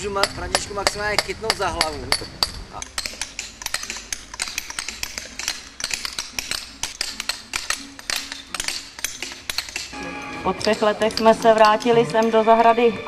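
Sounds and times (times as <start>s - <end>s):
chisel tapping on stone: 0.0s - 12.4s
faint low music: 0.0s - 13.0s.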